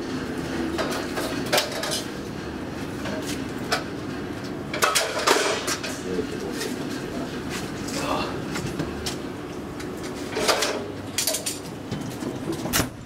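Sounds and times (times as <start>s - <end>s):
elevator low rumble: 0.0s - 13.0s.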